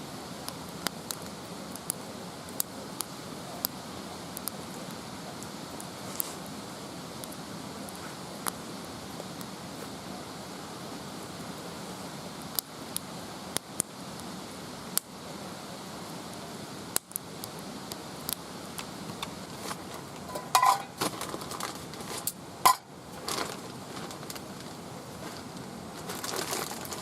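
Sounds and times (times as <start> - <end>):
wood fire crackling and popping: 0.2 - 27.0.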